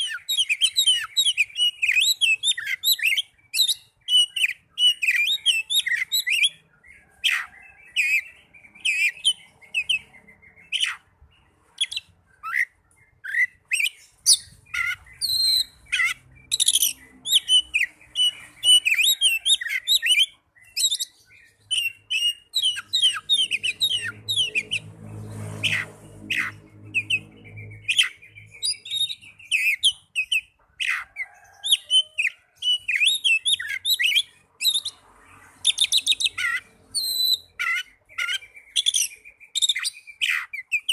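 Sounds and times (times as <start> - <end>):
bird whistles chirps and trills: 0.0 - 40.9.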